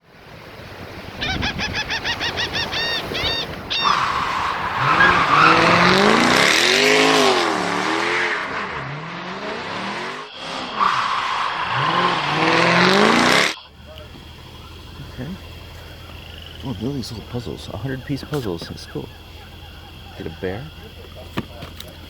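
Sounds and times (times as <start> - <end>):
car engine revving: 0.0 - 22.0
squealing noise: 1.2 - 21.1.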